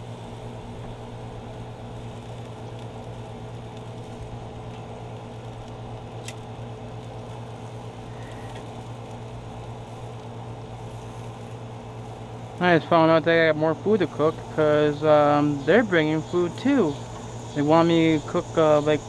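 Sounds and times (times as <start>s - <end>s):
meat sizzling on a grill: 0.0s - 19.0s.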